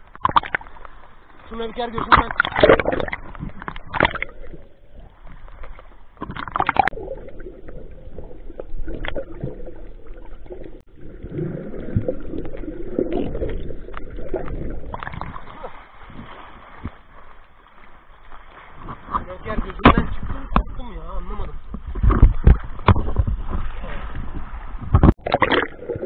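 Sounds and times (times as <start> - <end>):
sea water sloshing and gurgling: 0.0 - 26.0.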